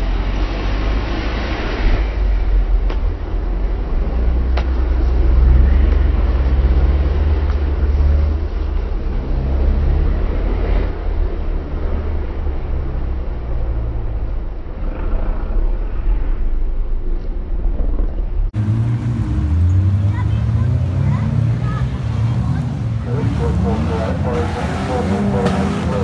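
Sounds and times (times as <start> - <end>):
racing car engines revving: 0.0 - 16.6, 18.6 - 26.0.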